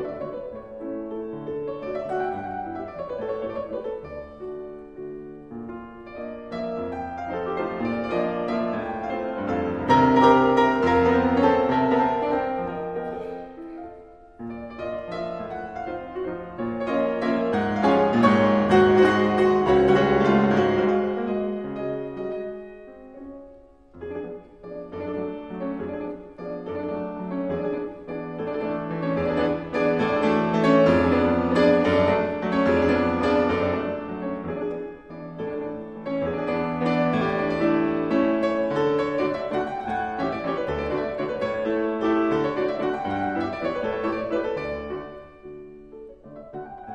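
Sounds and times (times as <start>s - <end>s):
classical piano music: 0.0s - 46.9s.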